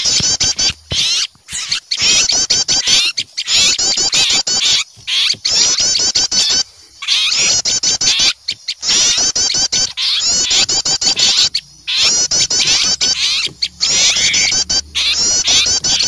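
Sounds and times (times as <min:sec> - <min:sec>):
songbirds alarm chirping: 0:00.0 - 0:16.0.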